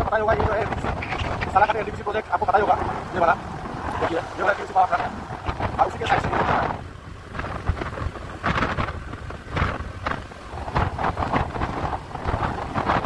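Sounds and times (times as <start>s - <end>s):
low road rumble: 0.0s - 13.0s
wind buffeting microphone: 0.0s - 13.0s.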